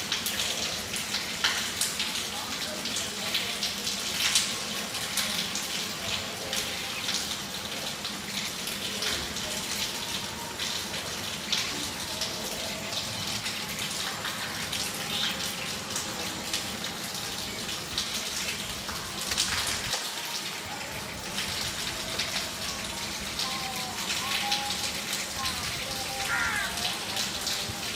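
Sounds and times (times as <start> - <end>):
drips and splashes: 0.0 - 27.9
rain falling steadily: 0.0 - 27.9.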